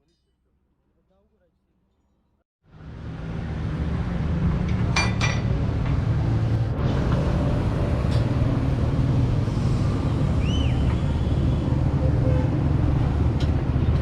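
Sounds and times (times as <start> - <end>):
low engine rumble: 2.7 - 14.0.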